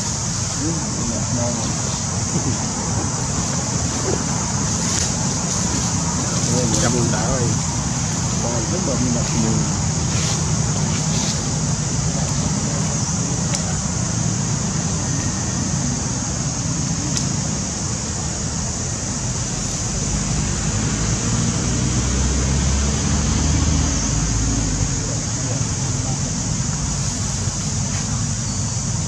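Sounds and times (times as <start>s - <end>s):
continuous low rumble: 0.0s - 29.0s
high-pitched hiss: 0.0s - 29.0s.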